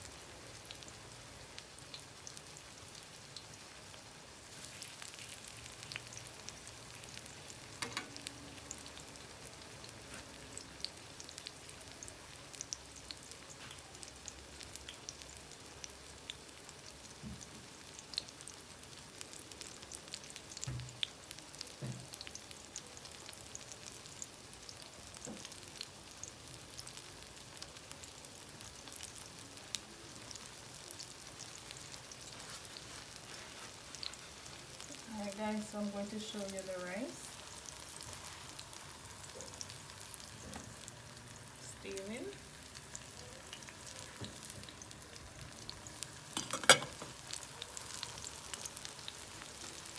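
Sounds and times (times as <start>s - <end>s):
frying in hot oil: 0.0s - 49.9s.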